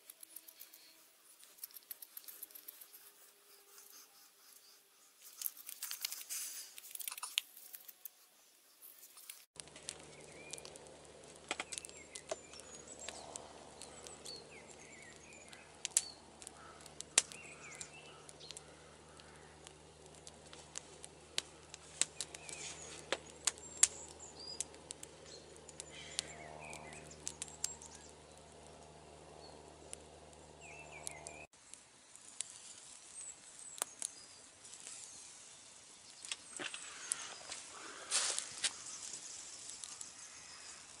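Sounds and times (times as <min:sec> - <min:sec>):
small birds chirping: 0:00.0 - 0:31.5, 0:32.1 - 0:41.0
campfire crackling: 0:00.0 - 0:41.0.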